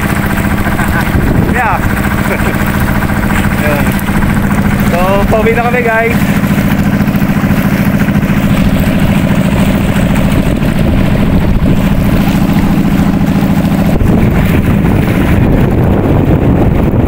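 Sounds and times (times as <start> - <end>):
motorboat engine running: 0.0 - 17.0
wind on microphone: 0.0 - 17.0.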